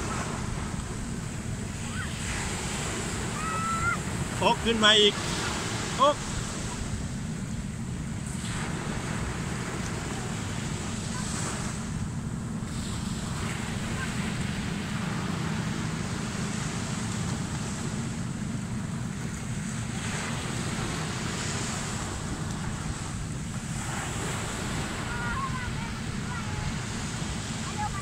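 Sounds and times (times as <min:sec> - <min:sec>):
ocean waves washing up beach: 0:00.0 - 0:28.0.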